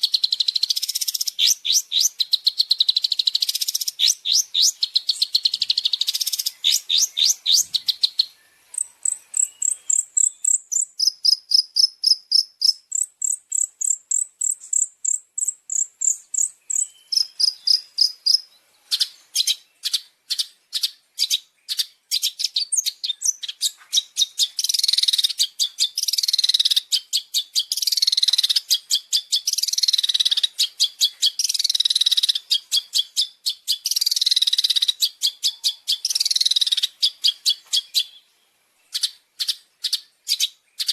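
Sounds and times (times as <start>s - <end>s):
bird chatter and trills: 0.0s - 40.9s
descending bird calls: 0.0s - 40.9s.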